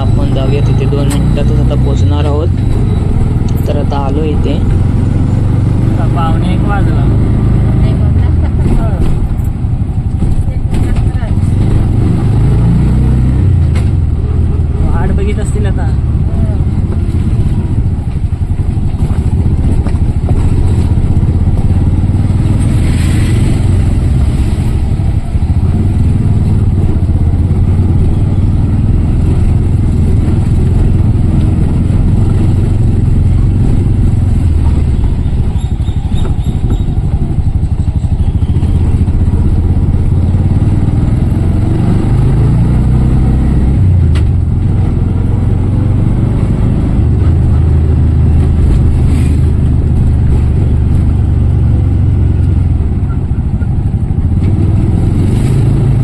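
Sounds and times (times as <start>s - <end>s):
road noise: 0.0s - 56.0s
small engine rumbling: 0.0s - 56.0s.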